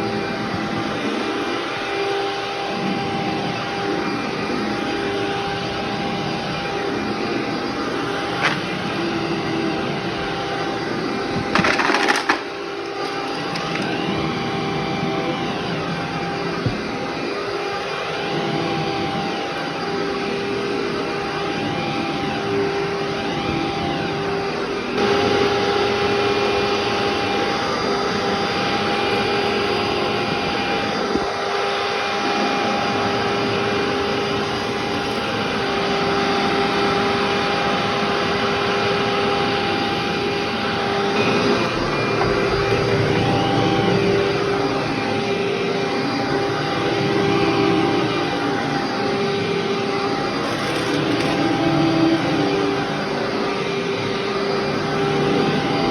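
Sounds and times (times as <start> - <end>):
vacuum cleaner running over carpet: 0.0 - 55.9.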